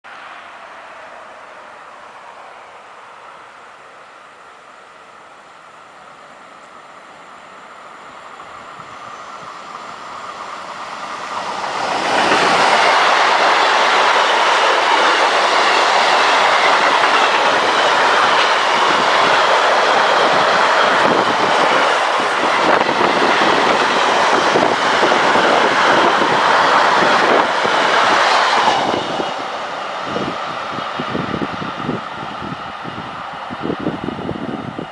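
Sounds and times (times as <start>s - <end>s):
freight train passing: 0.1s - 34.9s.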